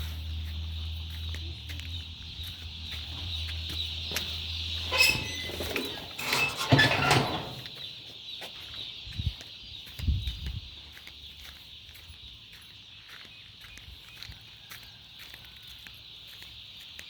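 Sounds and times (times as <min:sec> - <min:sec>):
chickens cheeping: 0:00.0 - 0:17.0.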